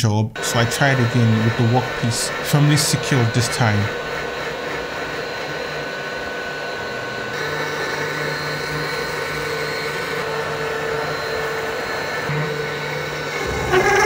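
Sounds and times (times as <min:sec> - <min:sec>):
router spindle whining cutting wood: 0:00.4 - 0:14.0.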